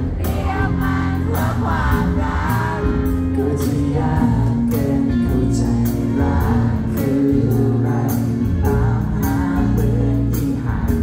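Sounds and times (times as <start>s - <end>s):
live pop song over loudspeakers: 0.0s - 11.0s.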